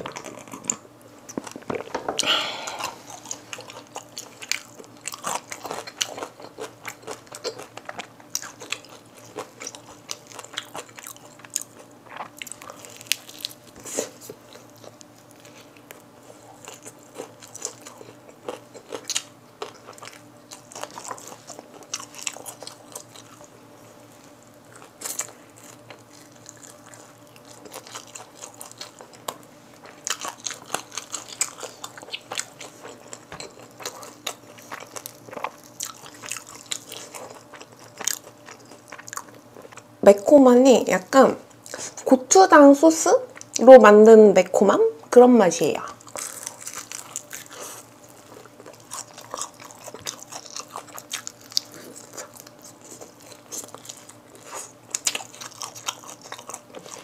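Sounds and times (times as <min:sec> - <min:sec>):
crunching fried chicken: 0:00.0 - 0:40.0, 0:45.9 - 0:57.0.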